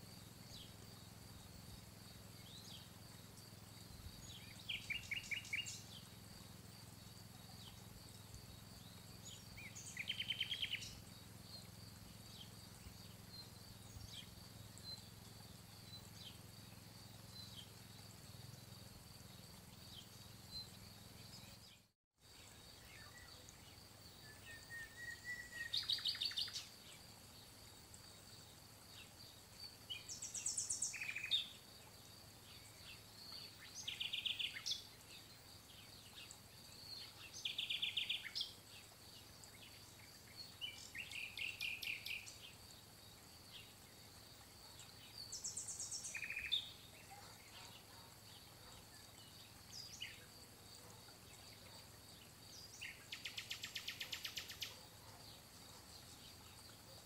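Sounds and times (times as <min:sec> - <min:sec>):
songbirds trilling: 0:00.1 - 0:21.9, 0:22.5 - 0:57.0.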